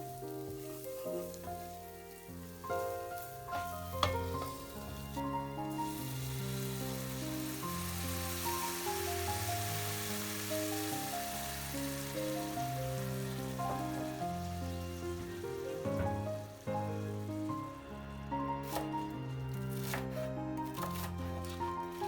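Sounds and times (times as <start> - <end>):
food sizzling in a pan: 0.0 - 17.8
gentle background music: 0.0 - 22.0.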